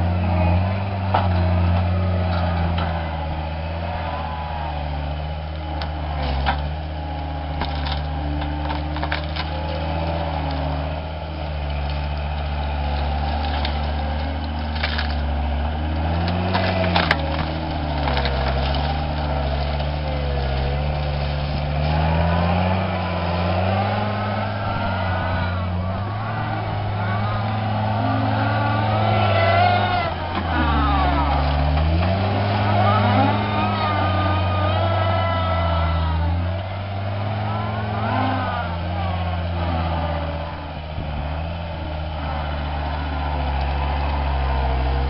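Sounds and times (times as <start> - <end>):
diesel engine working under load: 0.0 - 45.0
hydraulics whining: 0.0 - 45.0
wood and roots cracking: 0.0 - 45.0.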